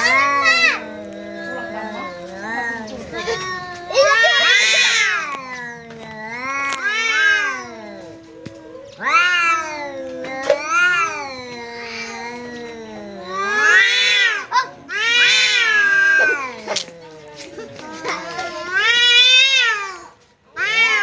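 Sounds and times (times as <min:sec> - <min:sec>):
cats yowling: 0:00.0 - 0:21.0.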